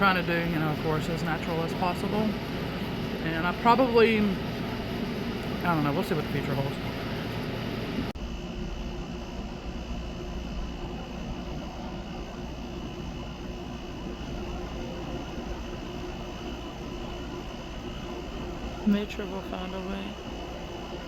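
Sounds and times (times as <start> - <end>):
steady mechanical drone: 0.0 - 21.0.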